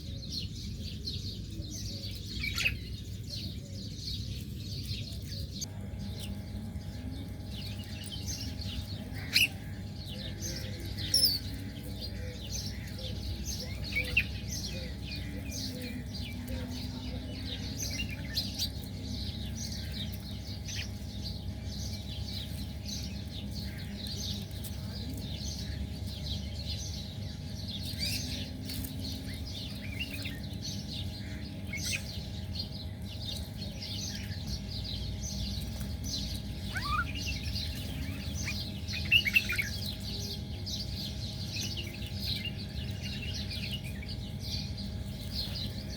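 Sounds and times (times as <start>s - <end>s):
loud bird calls: 0.0s - 45.9s
small birds chirping and twittering: 0.0s - 45.9s
steady low rumble: 0.0s - 45.9s.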